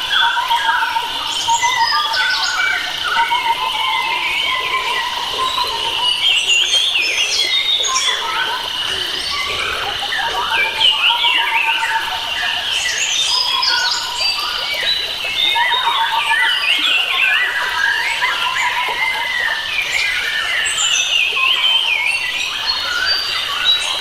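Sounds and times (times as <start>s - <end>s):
wild birds chirping and whistling: 0.0s - 24.0s.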